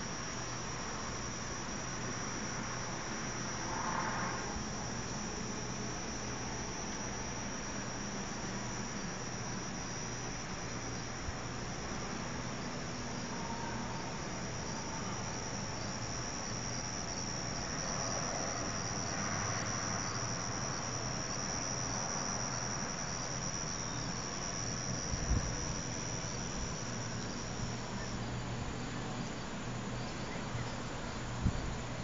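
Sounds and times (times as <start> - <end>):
high-pitched insect trill: 0.0 - 32.0.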